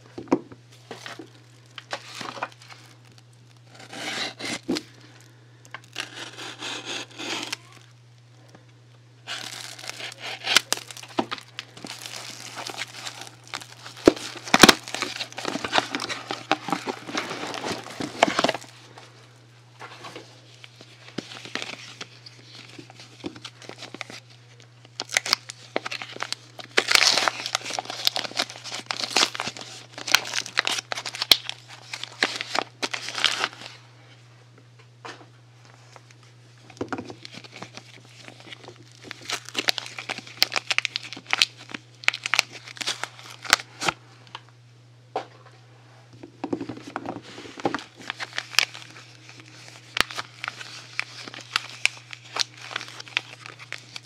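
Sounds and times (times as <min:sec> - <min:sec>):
steady low hum: 0:00.0 - 0:54.0
plastic and paper wrapping crinkling: 0:00.7 - 0:07.9, 0:09.3 - 0:19.2, 0:19.8 - 0:33.8, 0:35.7 - 0:44.0, 0:46.5 - 0:54.0.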